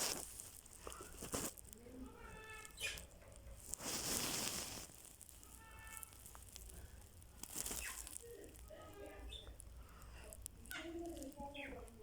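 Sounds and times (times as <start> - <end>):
rustling crinkling burst: 0.0 - 12.0.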